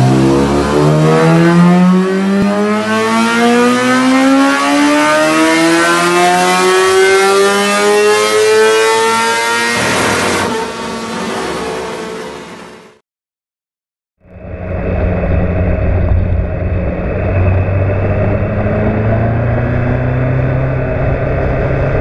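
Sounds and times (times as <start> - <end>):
motorcycle engine accelerating: 0.0 - 12.6, 14.2 - 22.0.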